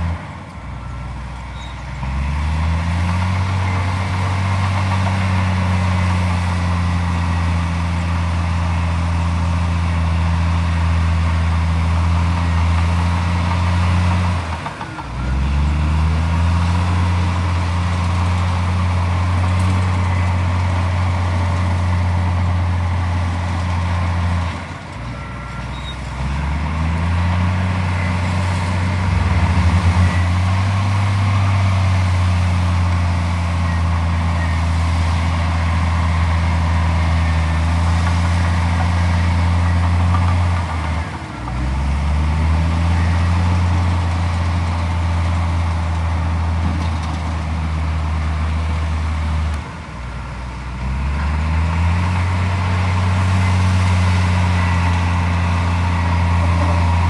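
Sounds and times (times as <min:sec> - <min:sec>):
bulldozer diesel engine revving: 0:02.0 - 0:57.0.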